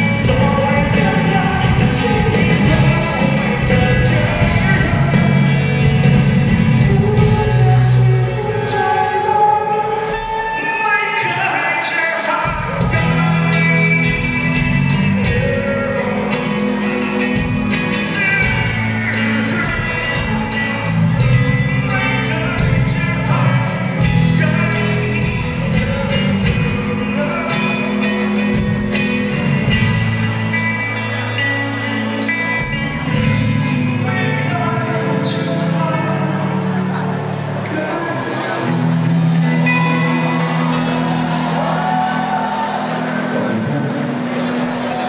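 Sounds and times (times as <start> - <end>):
live rock band playing: 0.0 - 45.0
person singing: 0.0 - 45.0.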